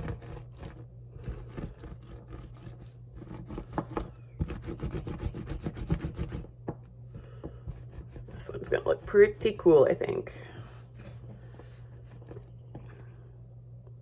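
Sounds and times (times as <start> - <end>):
hands rolling clay on countertop: 0.0 - 12.9.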